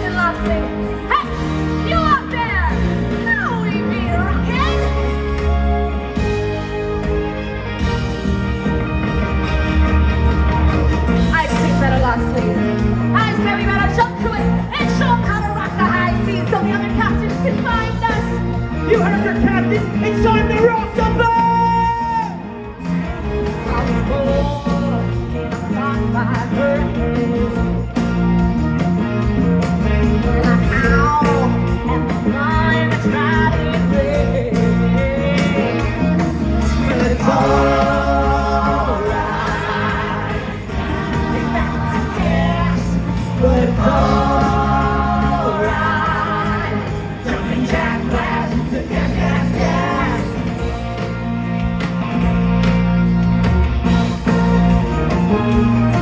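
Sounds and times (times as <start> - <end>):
electric guitars: 0.0 - 56.0.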